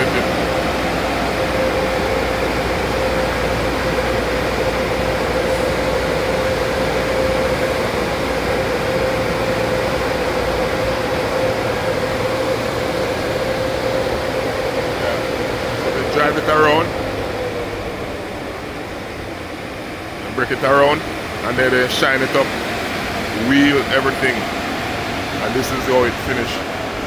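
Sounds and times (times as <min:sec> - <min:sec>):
car wash machinery hum: 0:00.0 - 0:27.0
constant whine: 0:00.0 - 0:27.0.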